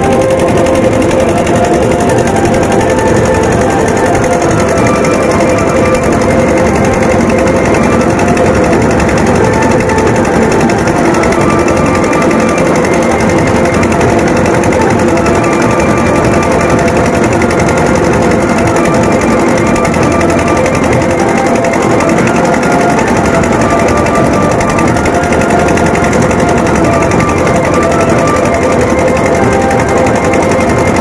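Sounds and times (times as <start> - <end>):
large crowd din: 0.0 - 31.0
loud fast drumming: 0.0 - 31.0.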